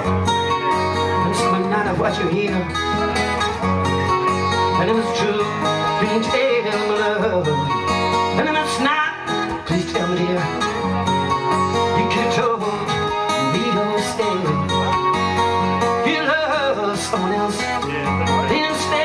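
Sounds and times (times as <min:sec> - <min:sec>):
acoustic guitars playing: 0:00.0 - 0:19.0.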